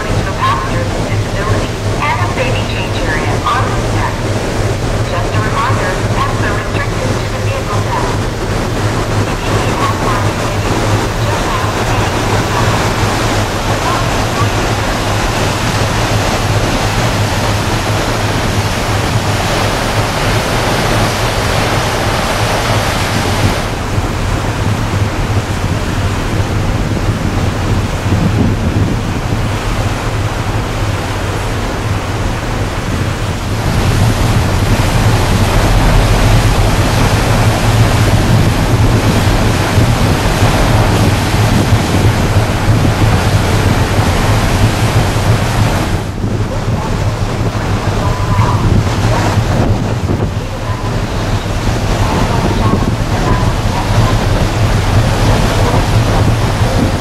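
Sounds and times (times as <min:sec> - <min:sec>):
low ship engine drone: 0:00.0 - 0:57.0
water rushing past hull: 0:00.0 - 0:57.0
wind buffeting microphone: 0:00.0 - 0:57.0.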